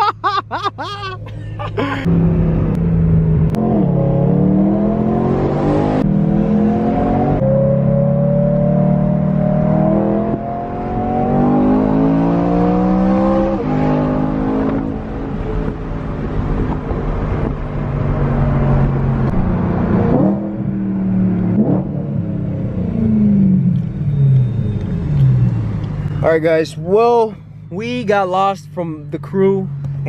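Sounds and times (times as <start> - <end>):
car engine accelerating: 1.3 - 30.0.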